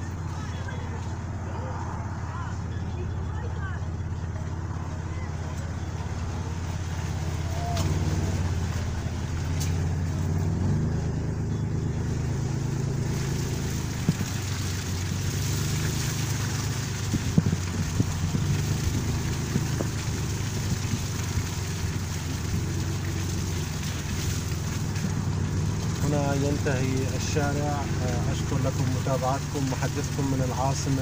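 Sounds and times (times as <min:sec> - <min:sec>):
car engine humming: 0:00.0 - 0:31.0
road noise: 0:00.0 - 0:31.0.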